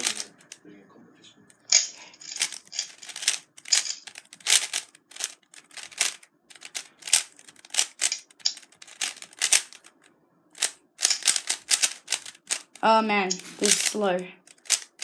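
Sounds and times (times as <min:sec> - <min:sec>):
puzzle cube clacking turns: 0:00.0 - 0:00.6, 0:01.5 - 0:15.0.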